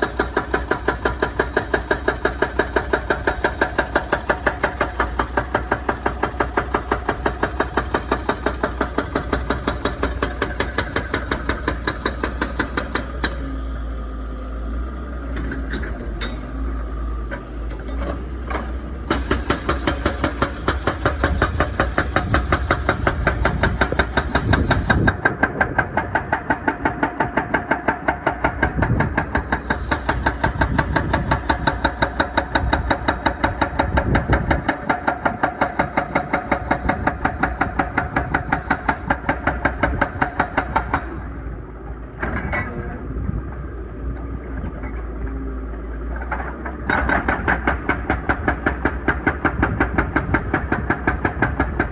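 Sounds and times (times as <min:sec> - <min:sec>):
hydraulic breaker hammering: 0:00.0 - 0:13.4, 0:18.0 - 0:41.3, 0:46.2 - 0:51.9
excavator engine drone: 0:00.0 - 0:51.9.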